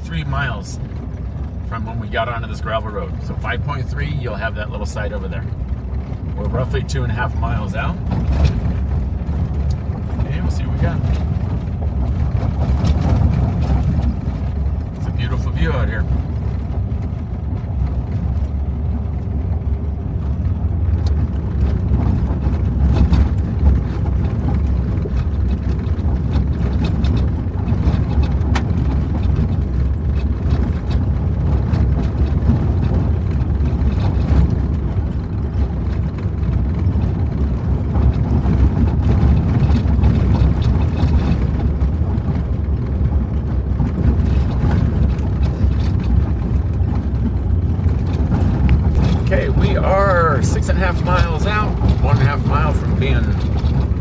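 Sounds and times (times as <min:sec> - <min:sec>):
tyres and engine rumble: 0:00.0 - 0:54.0.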